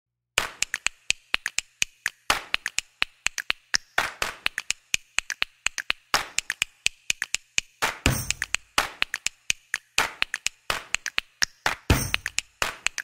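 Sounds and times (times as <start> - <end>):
finger snaps: 0.4 - 13.0
rhythmic claps: 0.4 - 13.0
tapping clicks: 0.4 - 13.0.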